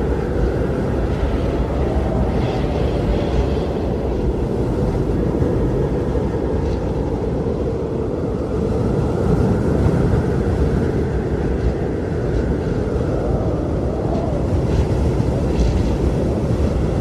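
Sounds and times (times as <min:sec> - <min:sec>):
strong wind blowing: 0:00.0 - 0:17.0.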